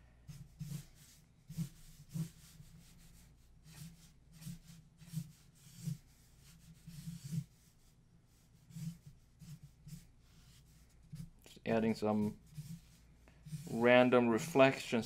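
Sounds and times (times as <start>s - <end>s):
marker squeaking on paper: 0.3s - 13.8s.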